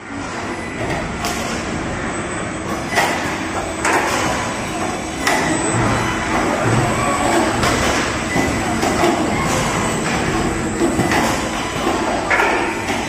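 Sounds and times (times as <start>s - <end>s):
production line machinery running: 0.0s - 13.0s.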